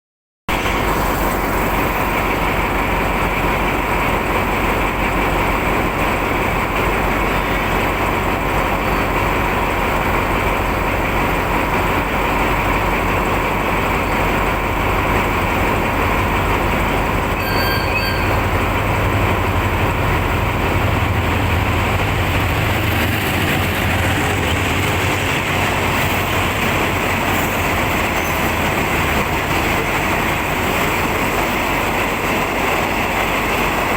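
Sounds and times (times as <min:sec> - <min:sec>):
train wheels on rails: 0:00.5 - 0:33.9.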